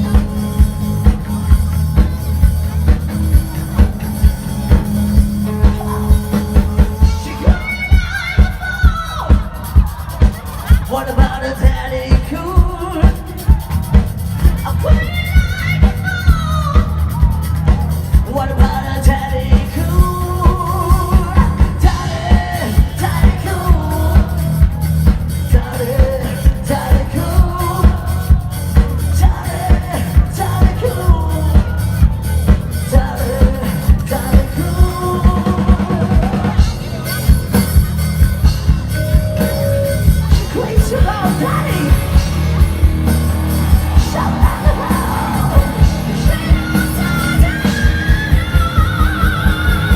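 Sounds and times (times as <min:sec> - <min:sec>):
drum kit beating: 0:00.0 - 0:49.9
lead singer: 0:00.0 - 0:49.9
live rock band playing: 0:00.0 - 0:49.9.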